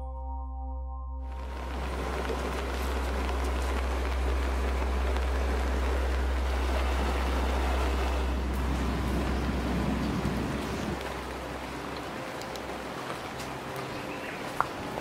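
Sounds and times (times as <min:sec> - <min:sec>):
stream rushing over rocks: 0:01.3 - 0:15.0.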